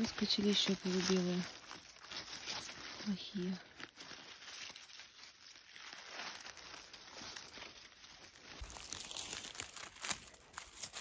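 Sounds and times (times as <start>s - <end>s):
grass and dry leaves rustling: 0.0s - 11.0s.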